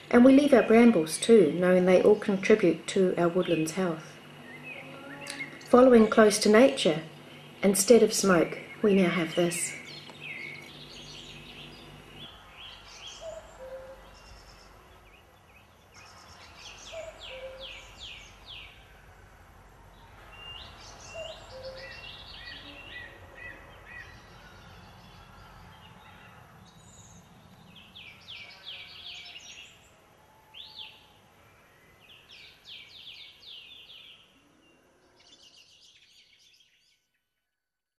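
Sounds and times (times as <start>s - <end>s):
faint background noise: 0.0s - 37.4s
songbirds singing: 0.0s - 37.5s.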